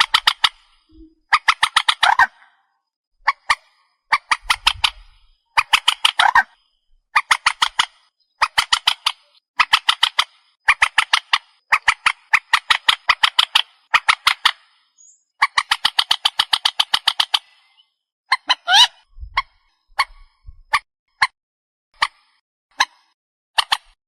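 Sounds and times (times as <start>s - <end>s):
bird calling harsh notes: 0.0s - 2.5s, 3.2s - 21.3s.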